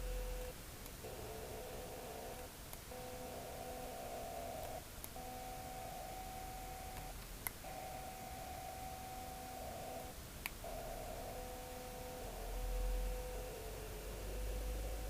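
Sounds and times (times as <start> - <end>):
faint motor whine: 0.0 - 15.0.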